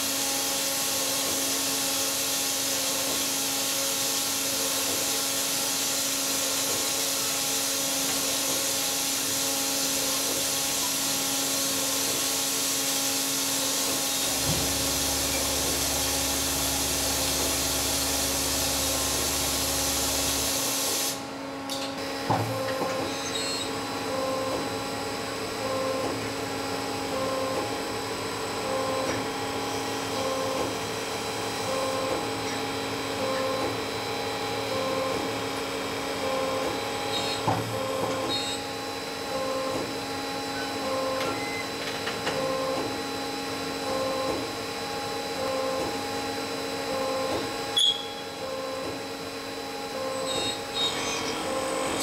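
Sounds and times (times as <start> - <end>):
lathe machine hum and whine: 0.0 - 52.0.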